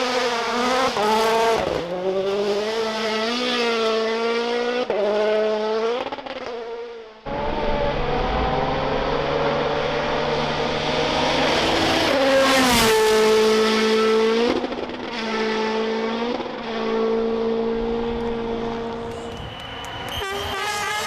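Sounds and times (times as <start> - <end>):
rally car engine passing: 0.0 - 21.0.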